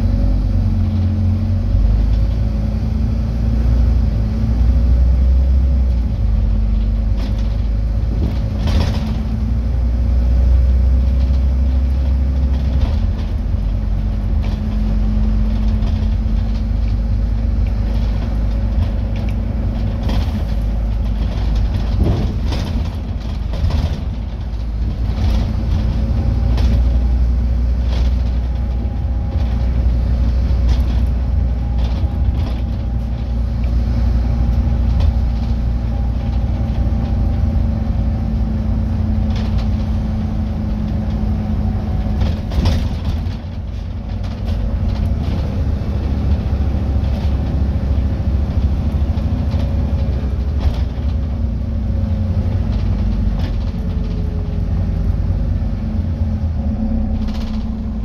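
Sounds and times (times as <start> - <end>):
bus engine and road rumble: 0.0 - 58.0
bodywork rattles and knocks: 5.0 - 58.0.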